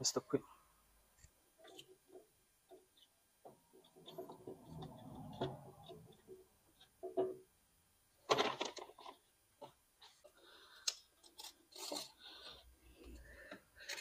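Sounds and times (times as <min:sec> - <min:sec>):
rubber parts rubbing and creaking: 0:01.2 - 0:07.4, 0:08.3 - 0:14.0.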